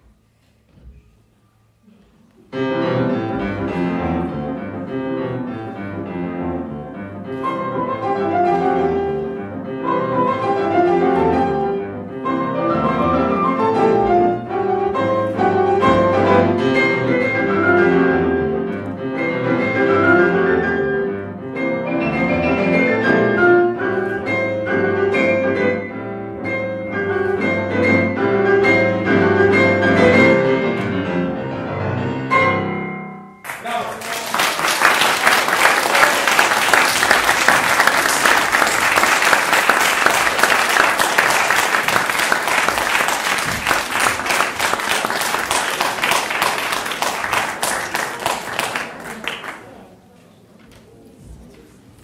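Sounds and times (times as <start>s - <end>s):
grand piano classical piece: 0.0s - 33.5s, 34.3s - 51.0s.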